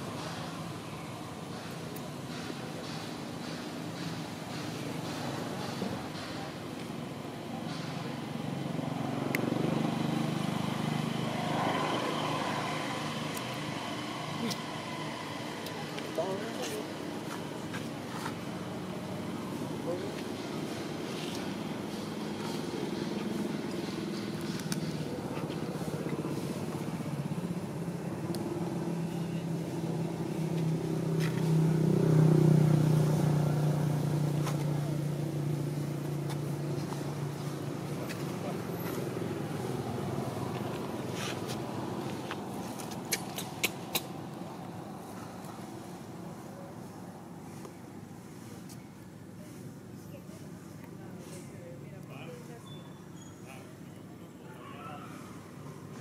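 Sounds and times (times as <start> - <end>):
vehicle engine droning: 0.0 - 48.6.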